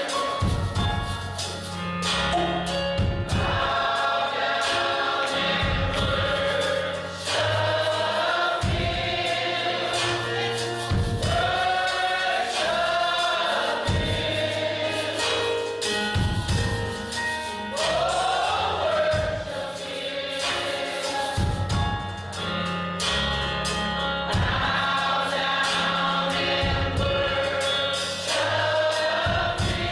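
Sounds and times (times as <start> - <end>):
bass: 0.0 - 29.9
drums: 0.0 - 29.9
gospel choir singing: 0.0 - 29.9
keyboard: 0.0 - 29.9.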